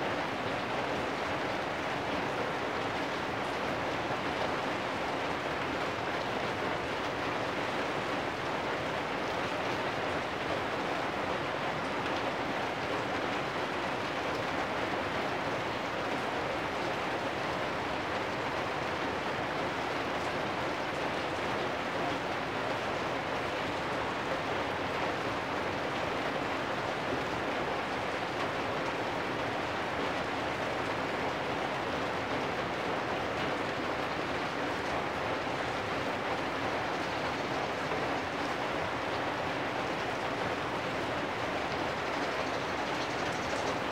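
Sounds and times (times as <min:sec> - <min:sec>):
rain on a metal roof: 0:00.0 - 0:43.9.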